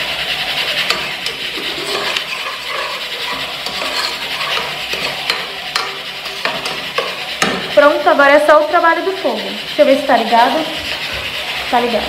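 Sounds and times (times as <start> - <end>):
garlic and onion sizzling in oil: 0.0 - 12.0.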